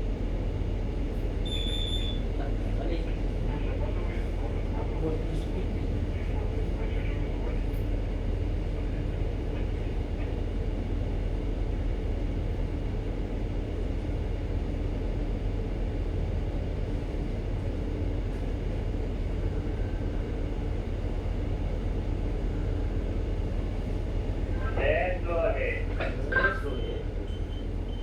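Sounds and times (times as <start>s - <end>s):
ship engine drone: 2.3s - 28.0s.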